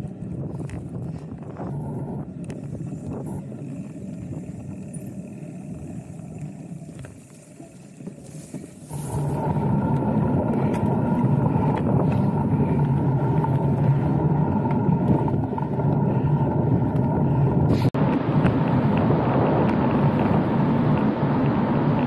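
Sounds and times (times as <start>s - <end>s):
wind noise on microphone: 0.0s - 7.3s, 8.0s - 22.0s
bike tyres on dirt trail: 0.0s - 22.0s.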